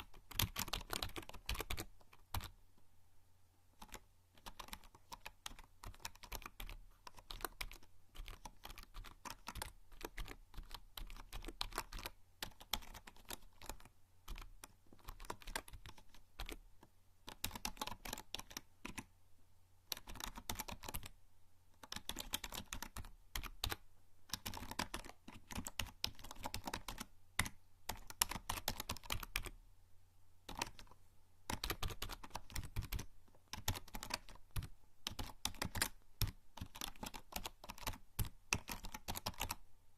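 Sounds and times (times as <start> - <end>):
typing on computer keyboard: 0.0 - 2.6, 3.8 - 16.6, 17.3 - 19.1, 19.9 - 21.2, 21.8 - 29.6, 30.5 - 39.6.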